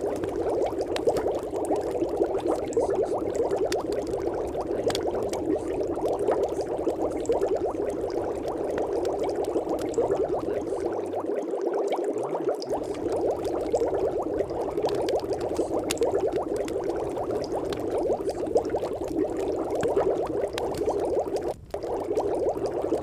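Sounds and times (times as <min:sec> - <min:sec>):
dense fine crackling: 0:00.0 - 0:23.0.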